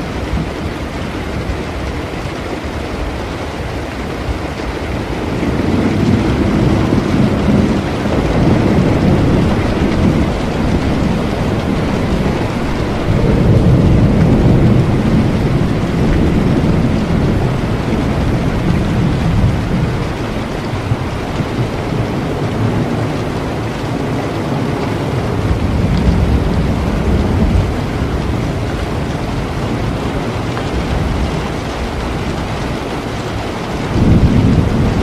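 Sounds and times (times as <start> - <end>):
steady rain: 0.0 - 35.0
rolling thunder: 4.9 - 35.0.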